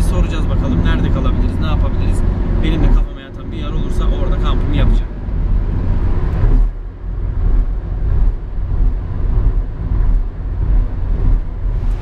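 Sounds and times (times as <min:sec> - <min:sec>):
van engine and road rumble: 0:00.0 - 0:12.0.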